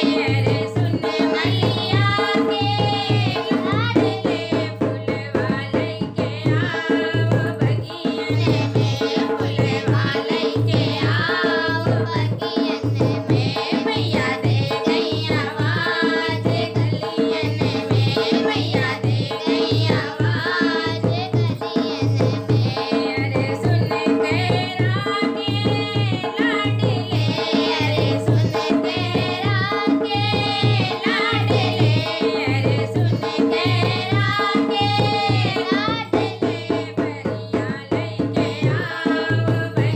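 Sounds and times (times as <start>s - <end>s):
hand drum beat: 0.0s - 39.9s
person singing devotional song: 0.0s - 39.9s.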